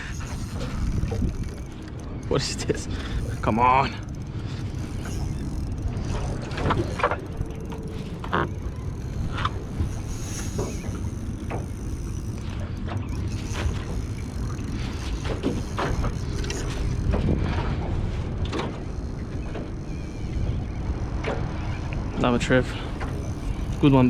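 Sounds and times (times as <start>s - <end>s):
fishing reel whirring: 0.0s - 24.0s
reel clicks: 0.0s - 24.0s
water noise: 0.0s - 24.0s
wind: 0.0s - 24.0s.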